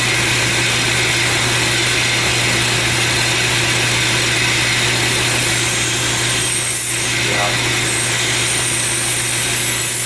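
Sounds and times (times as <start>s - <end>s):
grinder motor hum: 0.0s - 10.0s.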